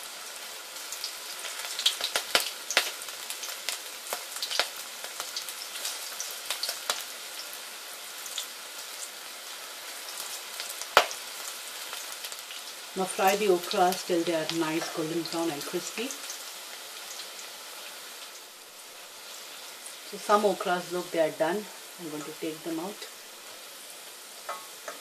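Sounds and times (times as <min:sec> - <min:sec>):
deep-frying sizzle with crackles: 0:00.0 - 0:25.0.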